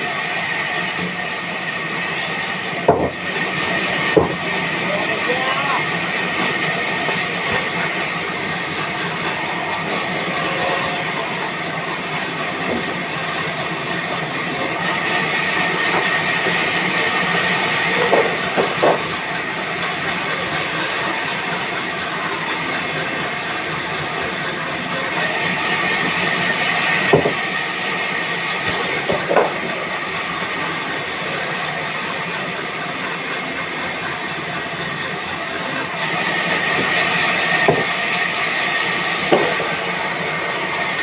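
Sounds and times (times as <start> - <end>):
high saw whine: 0.0 - 41.0
saw cutting wood: 0.0 - 41.0.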